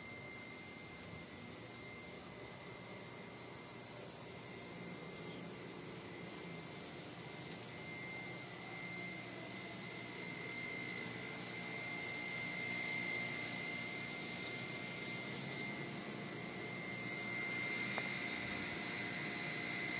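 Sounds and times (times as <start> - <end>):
background hiss and hum: 0.0 - 19.9
high-pitched whine: 0.0 - 19.9.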